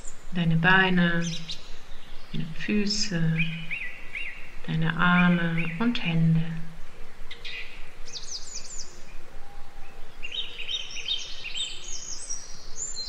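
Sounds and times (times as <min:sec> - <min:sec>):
faint background noise: 0:00.0 - 0:13.0
songbirds chirping and trilling: 0:00.0 - 0:13.0.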